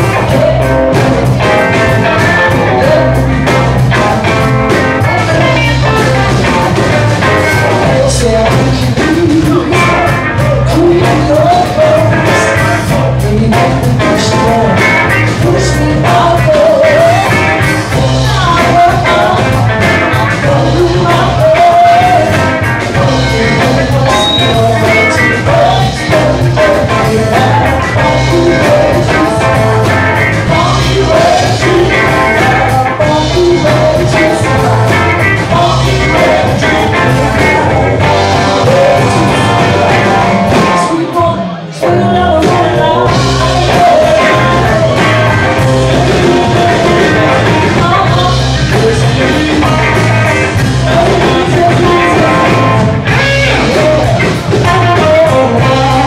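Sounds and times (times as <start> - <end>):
woman singing: 0.0 - 3.4, 7.6 - 22.4, 23.0 - 56.0
bass line: 0.0 - 56.0
drums: 0.0 - 56.0
electric guitars: 0.0 - 56.0.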